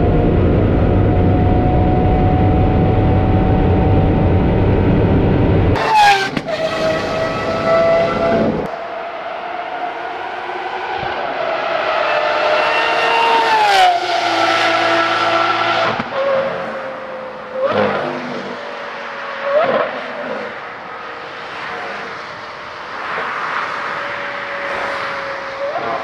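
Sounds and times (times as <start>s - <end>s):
distant high-revving engine: 0.0s - 26.0s
sports car passing at high speed: 0.0s - 26.0s.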